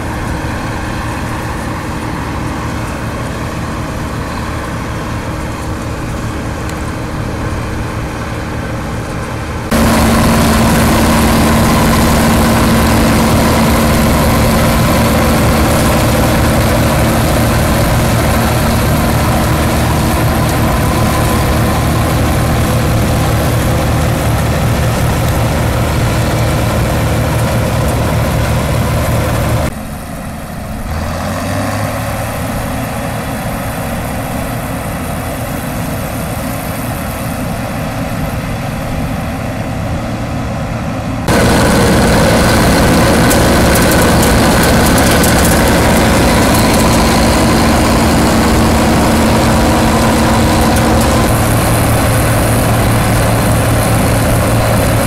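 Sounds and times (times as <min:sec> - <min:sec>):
combine diesel engine running: 0:00.0 - 0:55.0.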